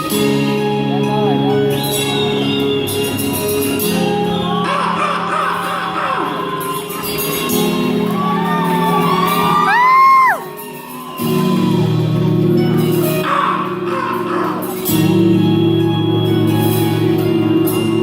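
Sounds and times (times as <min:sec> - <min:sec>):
live band playing: 0:00.0 - 0:04.7, 0:05.6 - 0:18.0.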